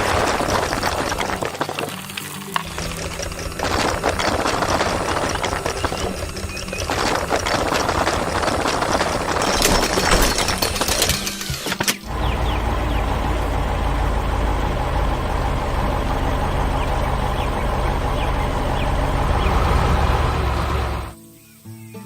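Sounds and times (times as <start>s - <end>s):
heavy diesel engine running: 0.0s - 1.8s, 2.4s - 21.2s.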